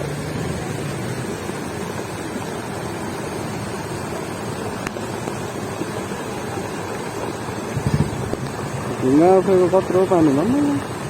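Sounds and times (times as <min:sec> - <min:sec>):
flood stream rushing: 0:00.0 - 0:11.0.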